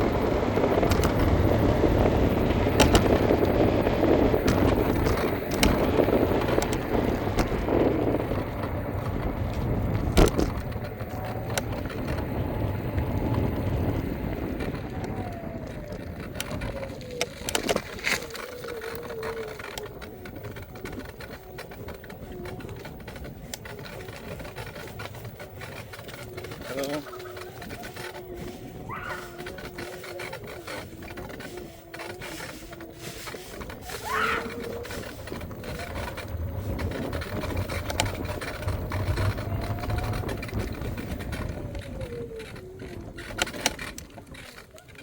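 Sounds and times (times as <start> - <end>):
scooter wheel rumble on pavement: 0.0 - 45.0.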